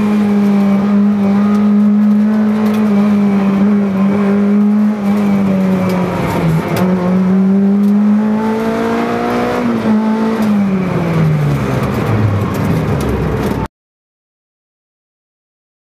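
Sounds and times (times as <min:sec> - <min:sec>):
rally car engine at full throttle: 0:00.0 - 0:13.7.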